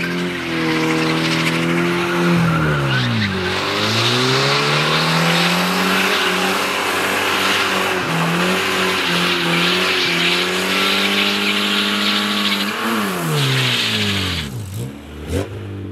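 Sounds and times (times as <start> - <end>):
car engine at high revs: 0.0 - 15.9.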